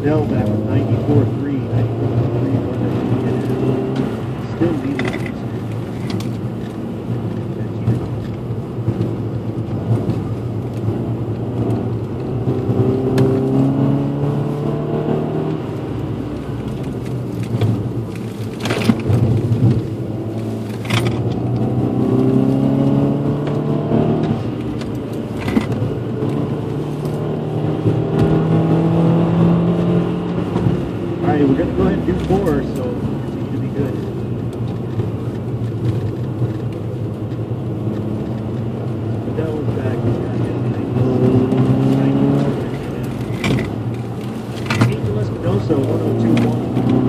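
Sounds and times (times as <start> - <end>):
car engine pulling hard: 0.0 - 47.0.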